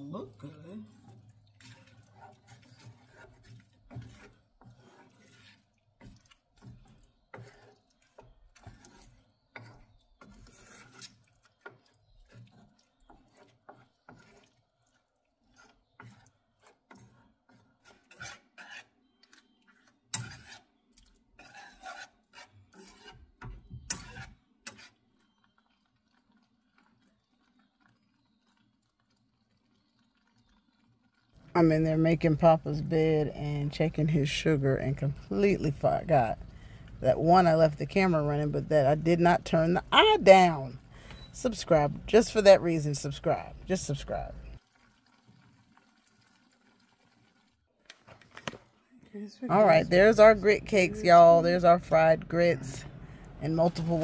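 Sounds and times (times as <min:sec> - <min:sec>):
wooden spoon stirring gravy in pan: 0:00.0 - 0:48.5, 0:49.5 - 0:54.0.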